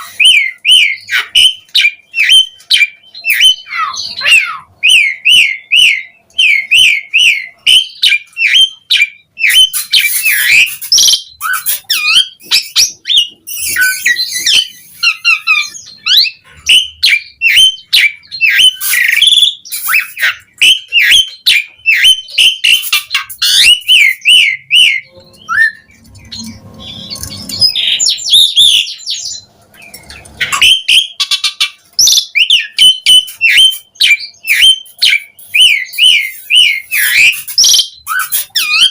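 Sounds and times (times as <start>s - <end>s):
starling singing: 0.0s - 38.9s
harsh squawky chatter: 3.2s - 38.9s.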